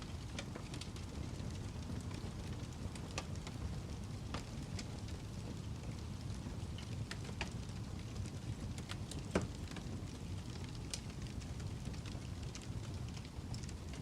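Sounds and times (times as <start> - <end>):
fire crackling with pops: 0.0 - 14.0.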